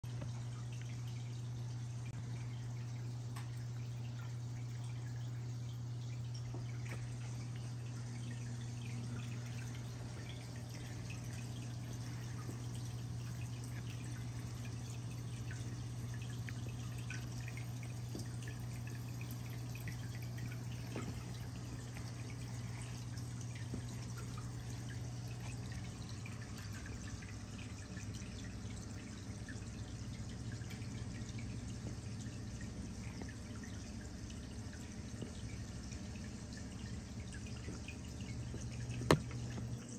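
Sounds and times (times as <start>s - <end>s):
low pump hum: 0.0s - 39.9s
water trickling and dripping: 0.0s - 39.9s.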